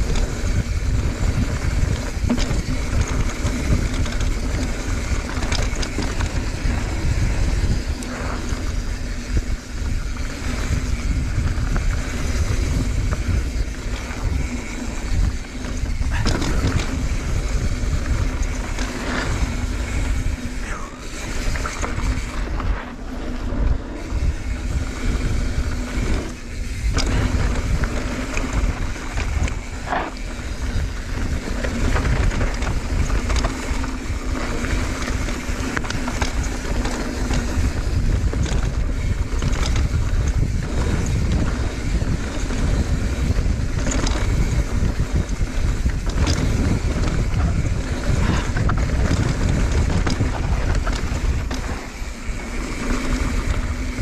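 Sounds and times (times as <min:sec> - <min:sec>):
bike rattling: 0:00.0 - 0:54.0
tyres rumbling on dirt: 0:00.0 - 0:54.0
wind buffeting microphone: 0:00.0 - 0:54.0.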